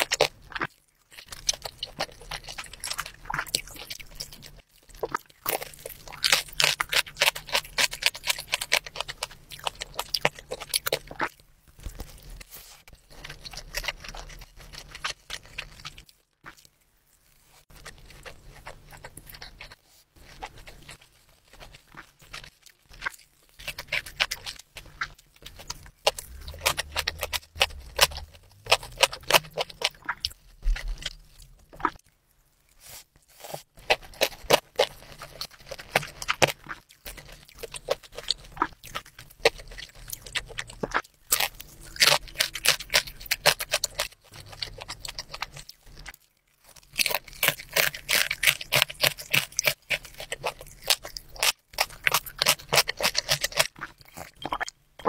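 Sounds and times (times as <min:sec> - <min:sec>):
person chewing crispy food: 0:00.0 - 0:55.0.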